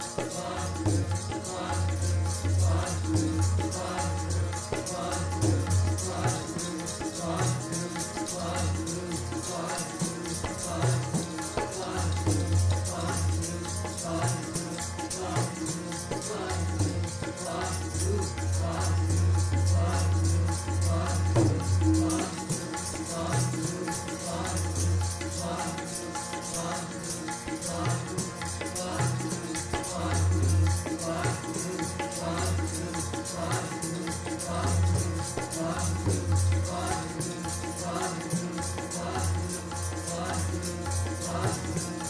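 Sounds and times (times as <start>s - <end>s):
harmonium: 0.0s - 42.0s
tabla drumming: 0.0s - 42.0s.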